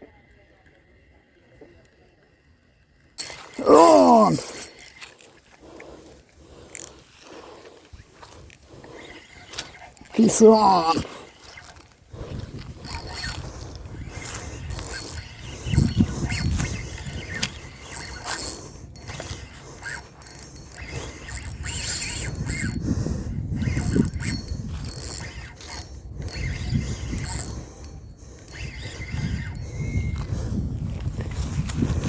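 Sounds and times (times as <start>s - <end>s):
fishing reel clicking and whirring: 1.6s - 32.0s.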